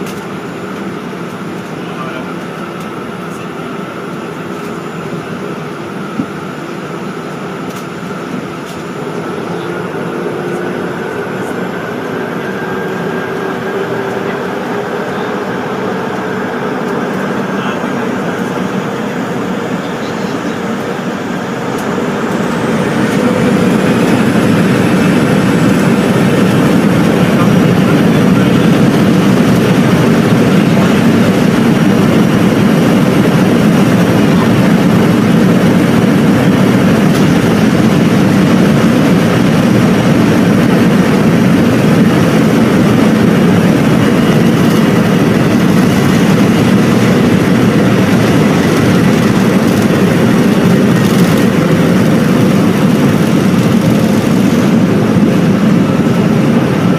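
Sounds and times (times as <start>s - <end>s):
jet engines roaring from cabin: 0.0s - 56.9s.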